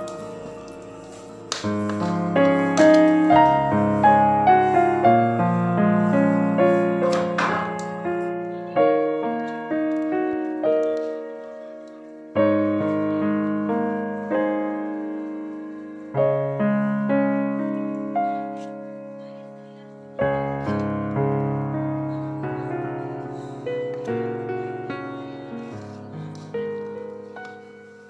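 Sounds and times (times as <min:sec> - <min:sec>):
slow solo piano: 0:00.0 - 0:28.0.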